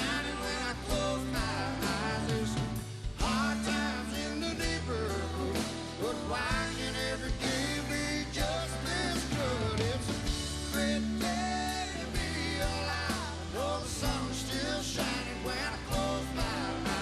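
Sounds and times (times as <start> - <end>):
country-rock band playing: 0.0 - 17.0
electric lead guitar: 0.0 - 17.0.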